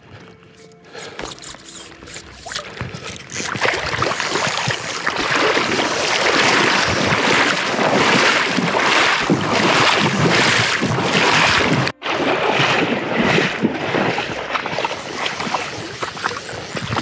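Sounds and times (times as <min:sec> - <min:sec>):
rushing river water: 0:01.4 - 0:17.0.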